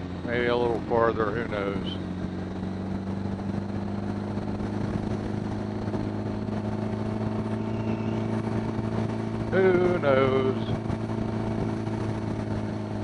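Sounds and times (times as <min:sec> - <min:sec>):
motorcycle engine cruising: 0:00.0 - 0:13.0
wind rush: 0:01.6 - 0:13.0.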